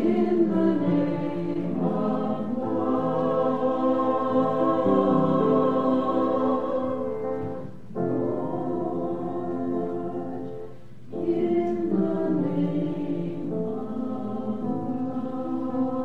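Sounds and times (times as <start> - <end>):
choir singing held notes: 0.0 - 16.0.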